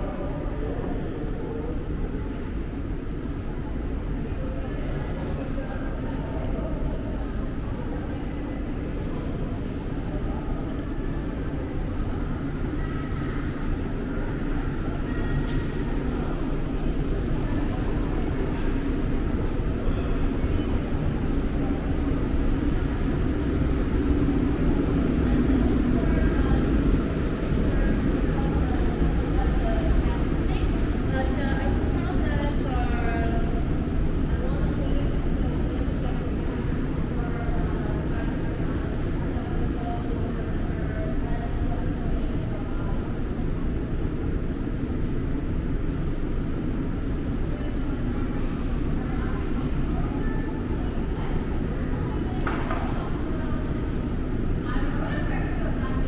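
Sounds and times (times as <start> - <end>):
metro train rumbling: 0.0 - 56.0.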